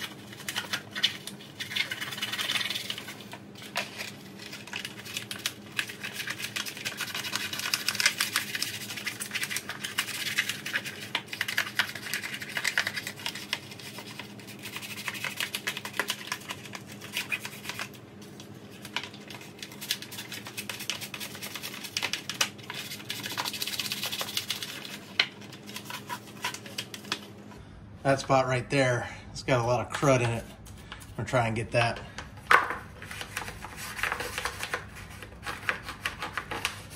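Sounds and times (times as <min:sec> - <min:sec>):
toothbrush scrubbing plastic tray: 0:00.0 - 0:27.2, 0:33.0 - 0:36.9.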